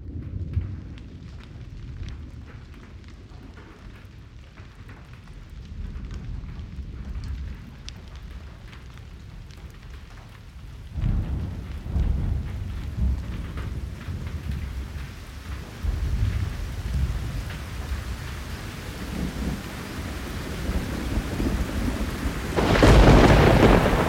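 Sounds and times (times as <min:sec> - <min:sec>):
rain falling: 0:00.0 - 0:24.0
thunder rumbling: 0:00.0 - 0:24.0.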